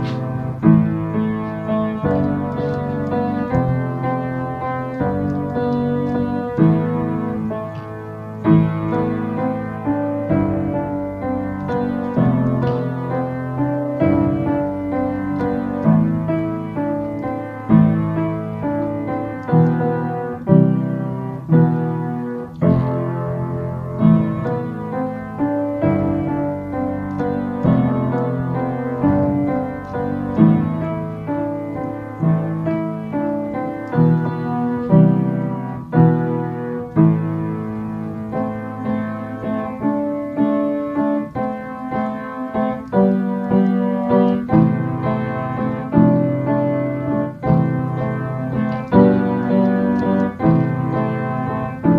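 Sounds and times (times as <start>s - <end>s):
solo piano: 0.0s - 51.9s.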